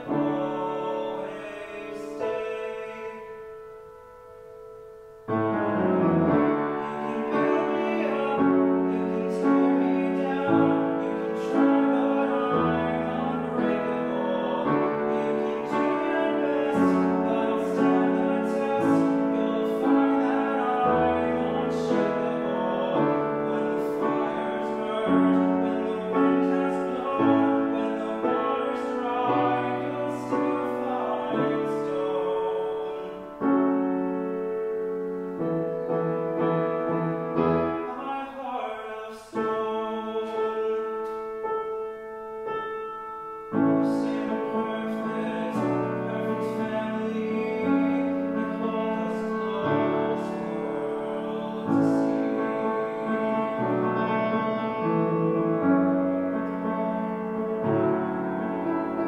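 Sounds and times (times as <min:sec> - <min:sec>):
solo piano playing: 0:00.0 - 0:59.0.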